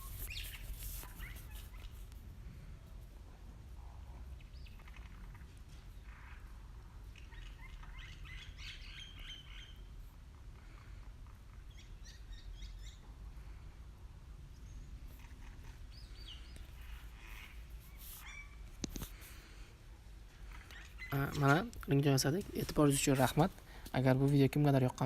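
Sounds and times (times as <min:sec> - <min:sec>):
faint bird chirping: 0:00.0 - 0:02.2, 0:02.8 - 0:25.0.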